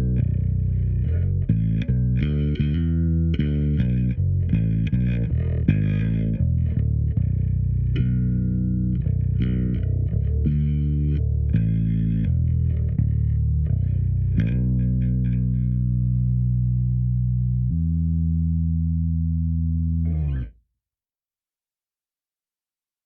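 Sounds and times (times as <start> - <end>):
plucked electric bass notes: 0.0 - 20.6.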